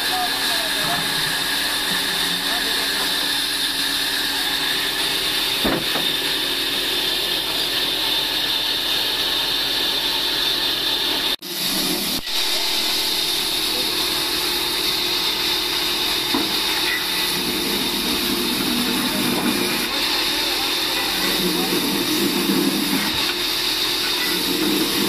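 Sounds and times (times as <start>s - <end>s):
band sawmill humming: 0.0s - 25.0s.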